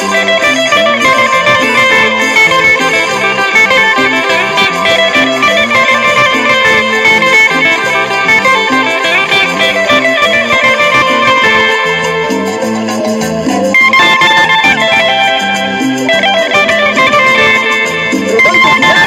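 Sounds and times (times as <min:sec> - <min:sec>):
bass line: 0:00.0 - 0:19.0
electric guitar melody: 0:00.0 - 0:19.0
keyboard: 0:00.0 - 0:19.0.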